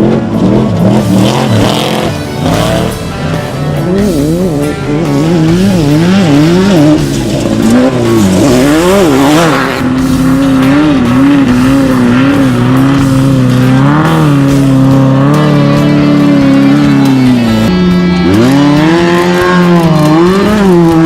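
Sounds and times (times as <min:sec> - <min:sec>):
music: 0:00.0 - 0:21.0
racing engine revving: 0:00.0 - 0:21.0.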